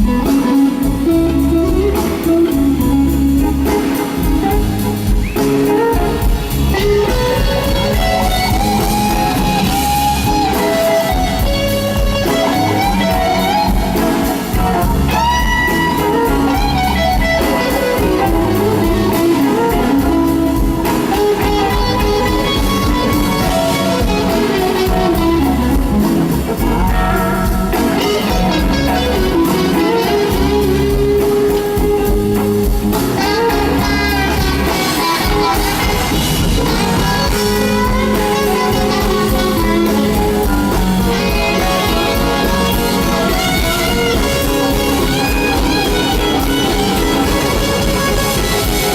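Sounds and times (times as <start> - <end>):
blues band playing: 0.0 - 48.9
electric guitar lead with bends: 0.0 - 48.9.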